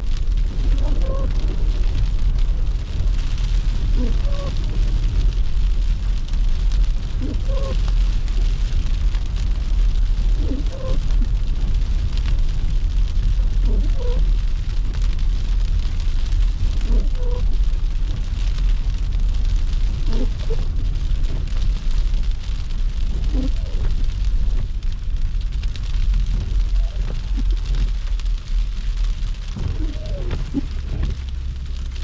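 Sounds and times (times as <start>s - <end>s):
car driving through snow: 0.0s - 32.0s.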